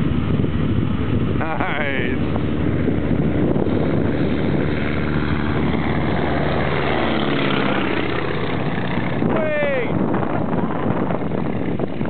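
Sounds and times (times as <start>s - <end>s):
biplane engine and propeller: 0.0s - 12.0s.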